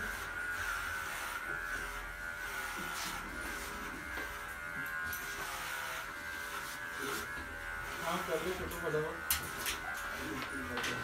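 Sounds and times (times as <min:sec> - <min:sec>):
electric pet clippers whining: 0:00.0 - 0:11.0.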